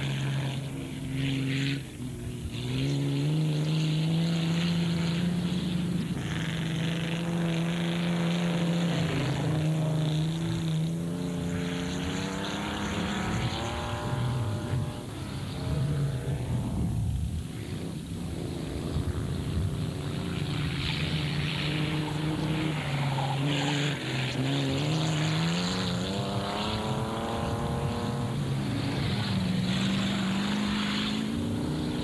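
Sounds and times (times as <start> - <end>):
race car engines running: 0.0 - 32.0.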